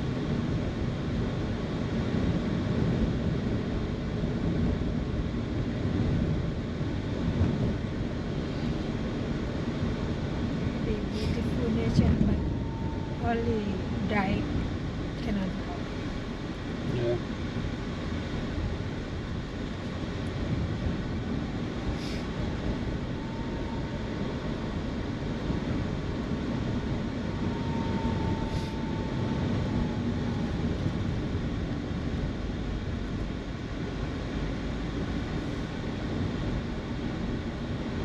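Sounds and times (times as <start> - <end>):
car engine and road noise: 0.0 - 38.0
faint whine: 5.5 - 38.0.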